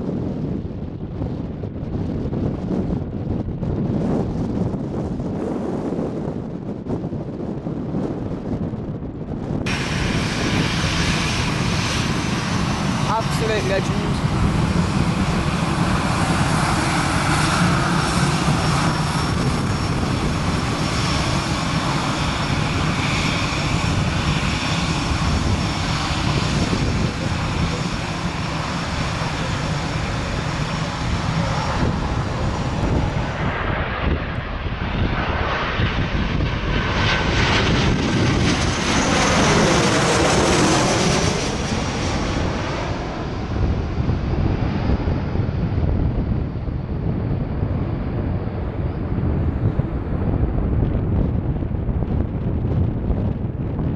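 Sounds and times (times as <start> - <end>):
jet airliner on approach: 0.0 - 53.9
jet engines running at high power: 0.0 - 53.9.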